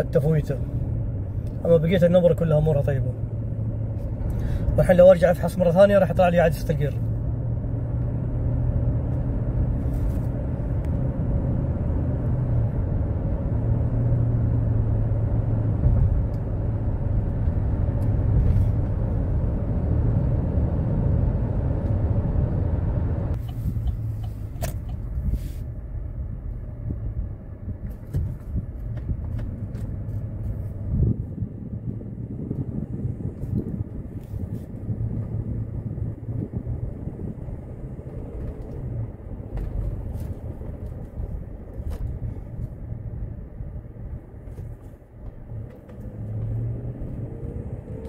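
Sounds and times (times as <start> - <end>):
car engine rumble: 0.0 - 48.0
road noise: 0.0 - 48.0.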